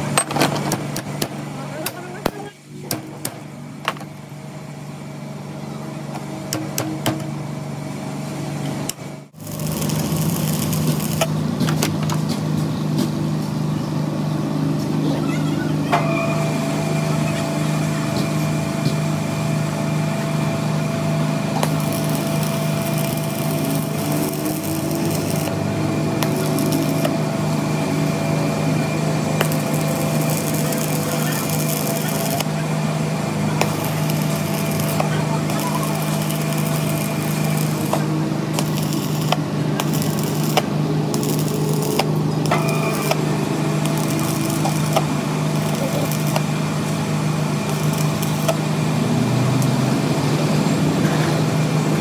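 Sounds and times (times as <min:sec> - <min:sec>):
machinery motor hum: 0:00.0 - 0:52.0.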